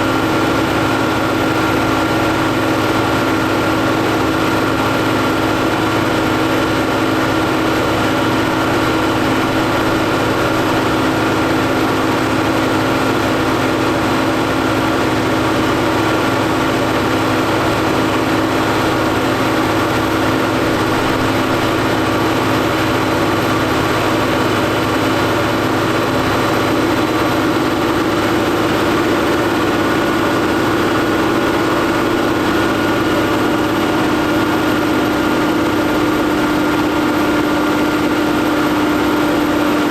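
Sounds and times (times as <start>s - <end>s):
tractor engine humming: 0.0s - 37.0s.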